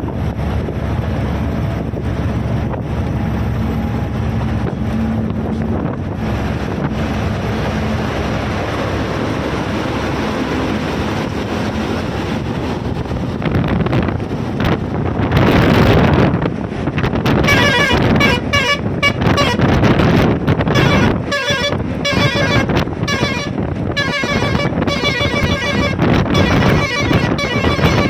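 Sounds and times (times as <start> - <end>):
road noise: 0.0 - 28.0
truck engine running: 0.0 - 28.0
wind buffeting microphone: 0.0 - 28.0.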